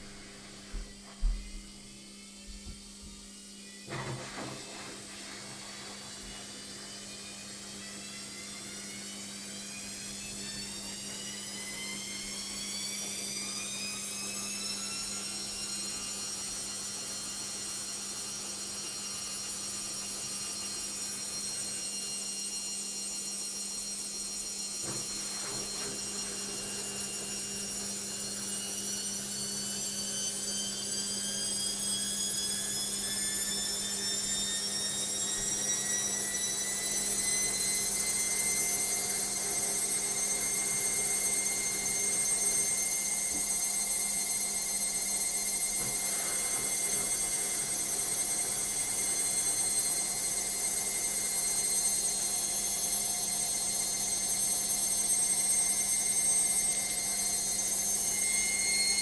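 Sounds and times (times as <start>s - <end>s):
washing machine motor whining: 0.0s - 59.0s.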